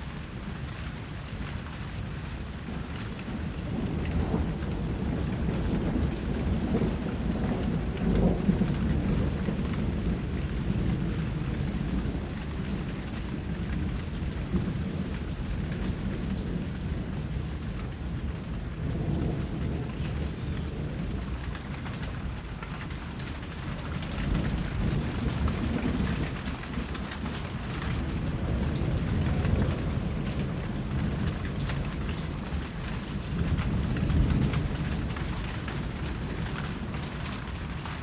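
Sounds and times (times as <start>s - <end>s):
low rolling thunder: 0.0s - 38.0s
rain falling: 0.0s - 38.0s.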